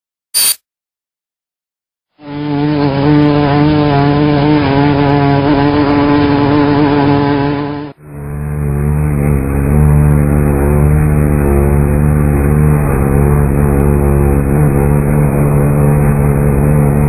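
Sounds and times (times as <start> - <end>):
low buzzing hum: 2.3 - 17.0.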